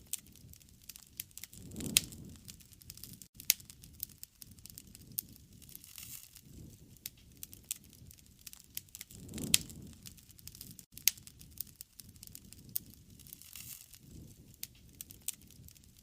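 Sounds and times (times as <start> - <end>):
wood campfire crackling: 0.0 - 16.0.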